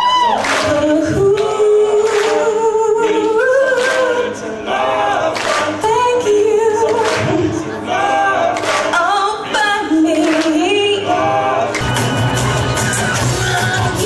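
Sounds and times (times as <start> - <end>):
group singing a cappella: 0.4 - 14.0.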